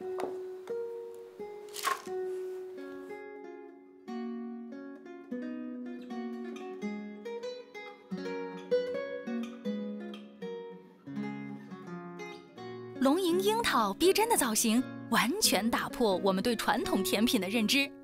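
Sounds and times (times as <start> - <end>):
plucked guitar-like melody: 0.0 - 18.0.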